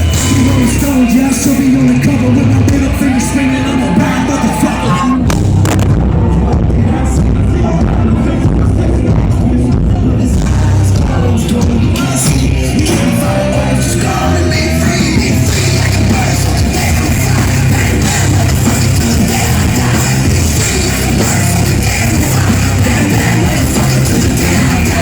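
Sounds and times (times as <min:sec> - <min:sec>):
shouted vocals: 0:00.0 - 0:05.4, 0:06.0 - 0:25.0
crowd voices: 0:00.0 - 0:25.0
rap-rock music through loudspeakers: 0:00.0 - 0:25.0.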